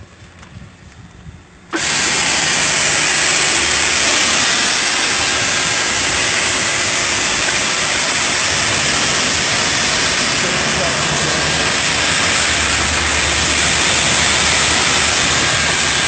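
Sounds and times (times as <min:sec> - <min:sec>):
pressure washer spraying: 0:01.7 - 0:16.0.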